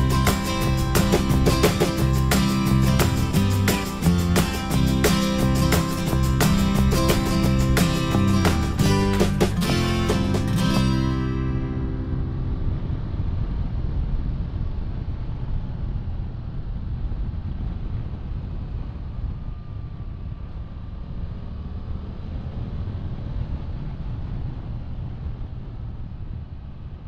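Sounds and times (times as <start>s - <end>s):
motorcycle engine drone: 0.0s - 27.0s
wind rushing over microphone: 0.0s - 27.0s.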